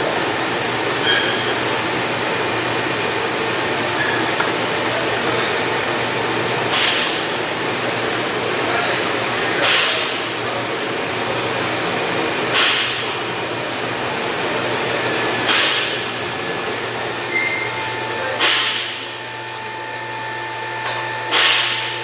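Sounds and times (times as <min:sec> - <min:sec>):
low workshop hum: 0:00.0 - 0:22.0.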